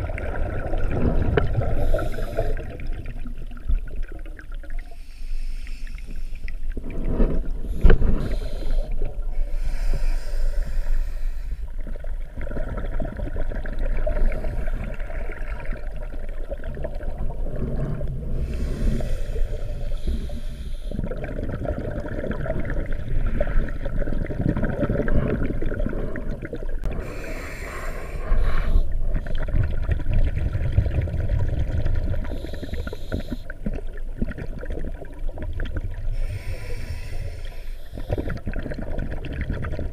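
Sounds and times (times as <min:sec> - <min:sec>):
low underwater rumble: 0:00.0 - 0:05.6, 0:06.2 - 0:39.9
bubbling bursts of exhaled breath: 0:00.0 - 0:39.9.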